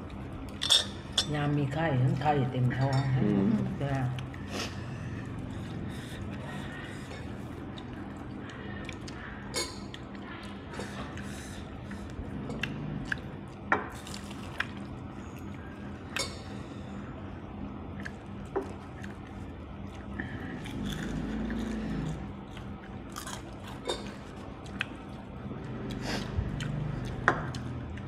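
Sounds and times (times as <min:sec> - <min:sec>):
low hum: 0:00.0 - 0:28.0
chewing: 0:03.6 - 0:16.6, 0:17.8 - 0:28.0.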